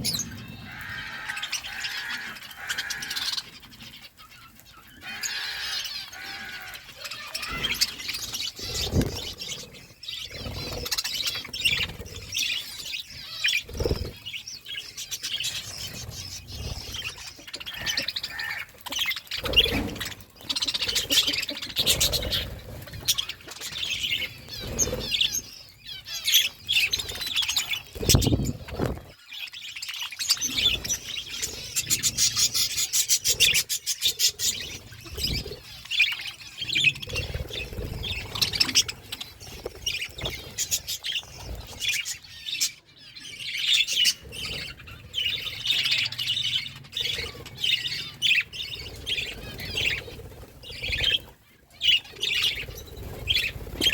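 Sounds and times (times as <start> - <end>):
budgies chirping and chattering: 0.0 - 53.9.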